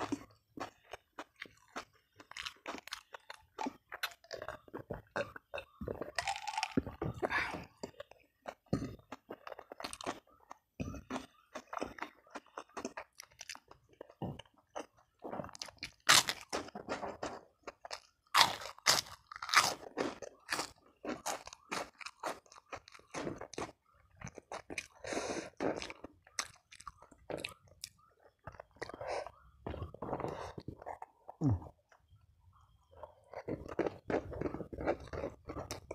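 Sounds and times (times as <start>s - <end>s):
chewing crunchy food: 0.0s - 35.9s.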